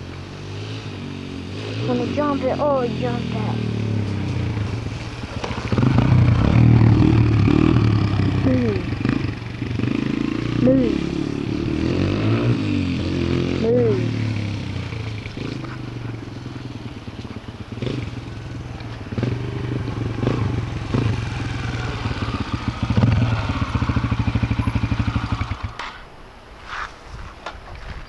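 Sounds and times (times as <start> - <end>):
dirt bike engine running: 0.0 - 25.9.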